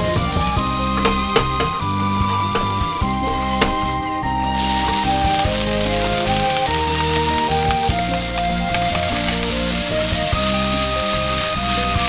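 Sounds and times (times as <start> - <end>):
background music: 0.0 - 12.0
food sizzling in hot oil: 0.0 - 12.0.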